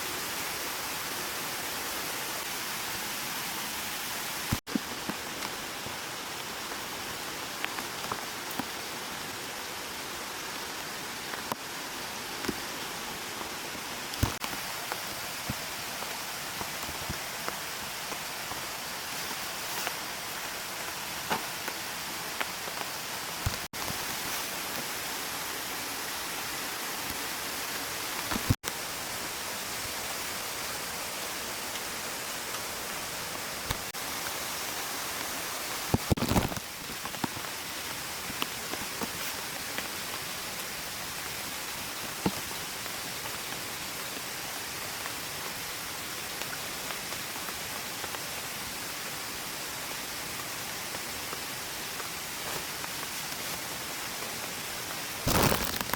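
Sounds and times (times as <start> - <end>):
rushing water: 0.0 - 55.9.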